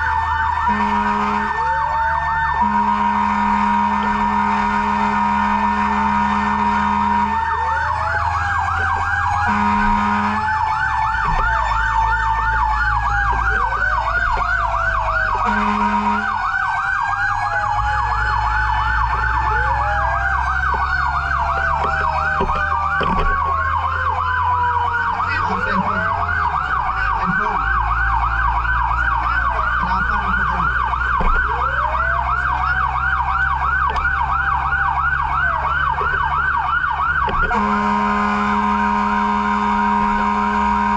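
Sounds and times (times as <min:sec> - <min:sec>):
engine rumble: 0:00.0 - 0:40.9
fire engine siren yelp and wail: 0:00.0 - 0:40.9
low horn blasts: 0:00.0 - 0:40.9.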